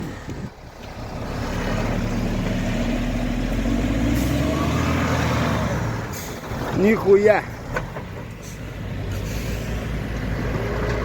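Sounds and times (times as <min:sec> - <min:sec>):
truck diesel engine revving: 0:00.0 - 0:11.0.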